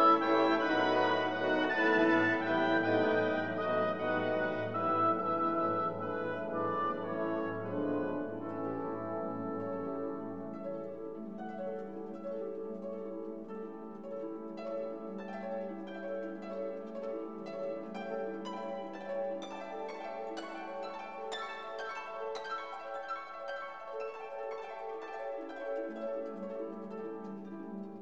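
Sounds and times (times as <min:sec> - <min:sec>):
plucked notes: 0:00.0 - 0:28.0.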